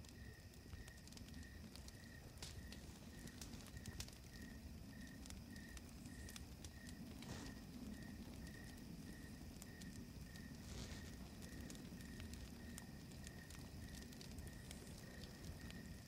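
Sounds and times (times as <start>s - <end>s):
campfire crackling and popping: 0.0s - 16.0s
campfire hiss: 0.0s - 16.0s
insect chirping: 0.0s - 16.0s.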